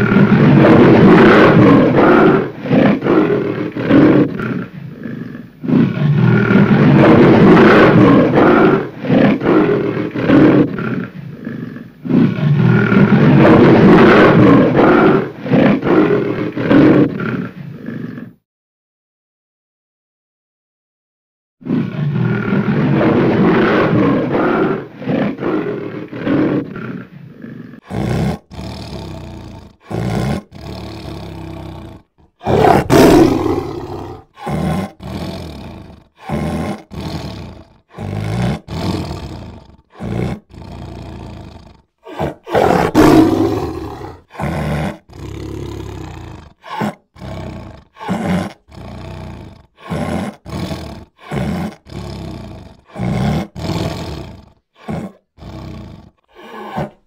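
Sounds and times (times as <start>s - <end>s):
big cats roaring and growling: 0.0s - 18.4s, 21.6s - 57.0s.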